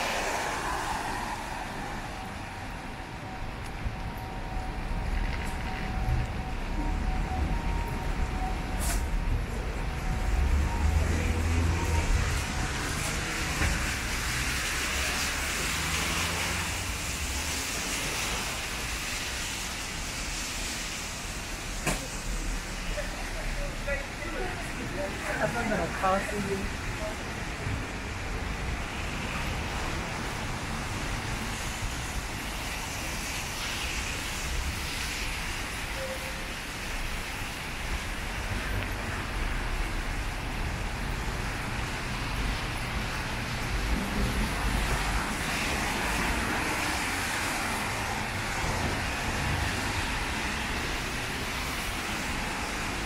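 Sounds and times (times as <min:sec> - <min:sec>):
heavy rain falling: 0:00.0 - 0:53.0
low traffic rumble: 0:00.0 - 0:53.0.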